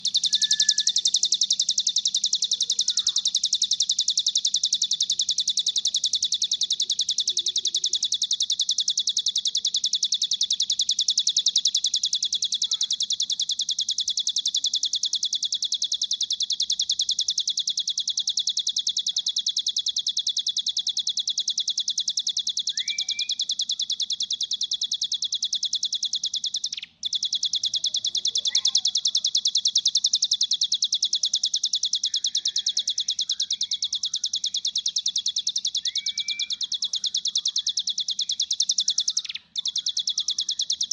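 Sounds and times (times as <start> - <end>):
bird rapid high trill: 0.0 - 40.9.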